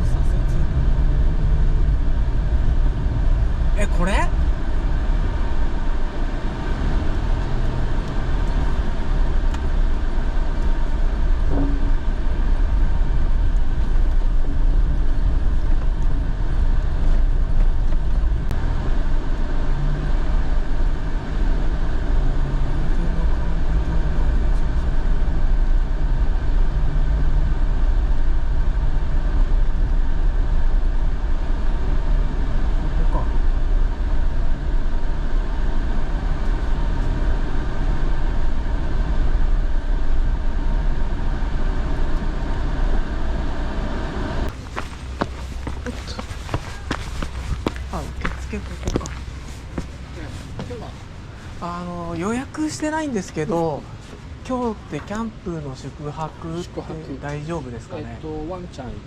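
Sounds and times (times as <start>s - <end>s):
car road noise rumble: 0.0s - 59.0s.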